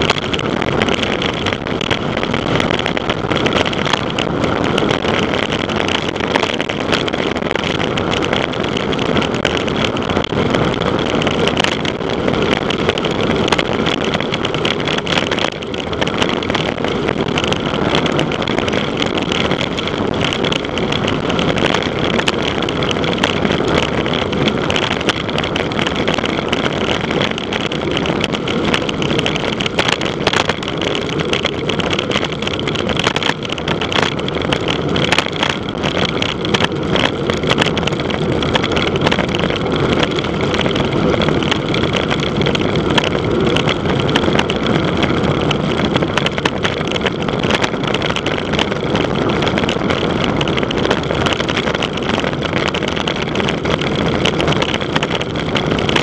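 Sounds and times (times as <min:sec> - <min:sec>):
tyre and road noise: 0:00.0 - 0:56.0
wind buffeting microphone: 0:00.0 - 0:56.0.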